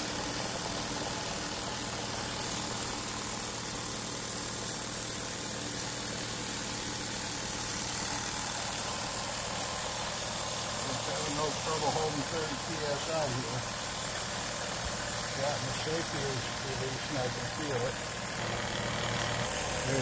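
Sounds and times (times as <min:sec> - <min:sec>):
small generator whirring: 0:00.0 - 0:20.0
steam engine running: 0:00.0 - 0:20.0.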